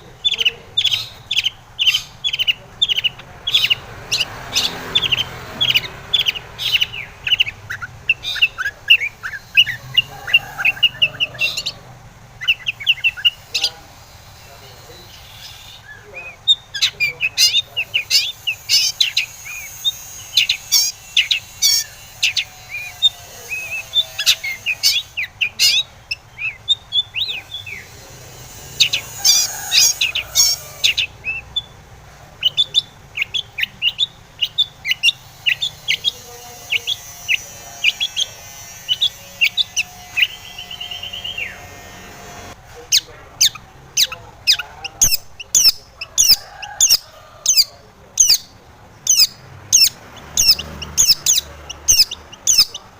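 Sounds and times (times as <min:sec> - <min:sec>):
bird singing sharp chirps: 0:00.0 - 0:41.7, 0:42.9 - 0:52.9.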